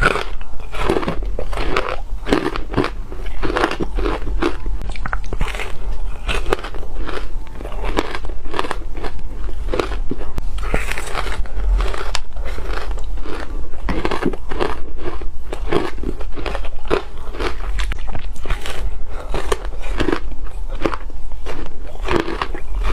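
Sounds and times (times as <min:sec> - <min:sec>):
chewing: 0:00.0 - 0:22.9
ice crunching between teeth: 0:00.0 - 0:22.9
steady low hum: 0:00.0 - 0:22.9.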